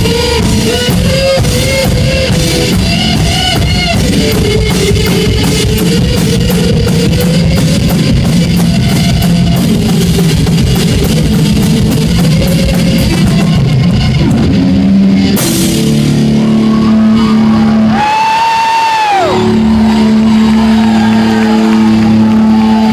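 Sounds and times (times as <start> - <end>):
distorted electric guitar: 0.0 - 22.9
drum kit pounding: 0.0 - 22.9.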